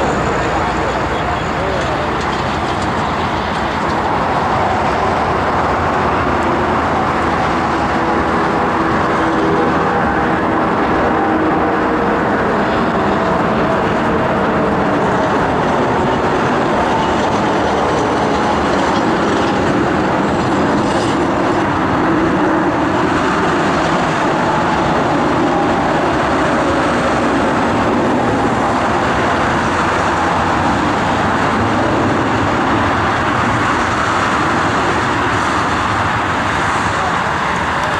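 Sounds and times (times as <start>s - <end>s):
jet engines roaring at take-off: 0.0s - 37.9s.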